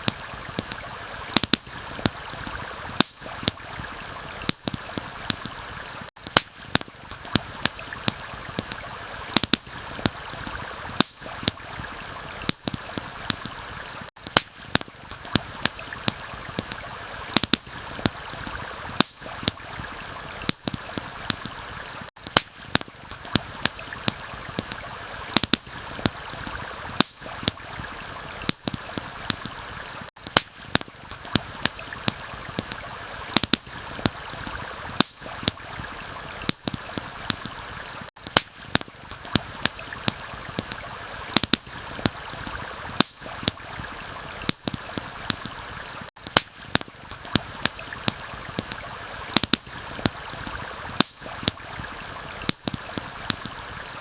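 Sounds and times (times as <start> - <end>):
campfire crackling and popping: 0.0 - 54.0
stream flowing: 0.0 - 54.0.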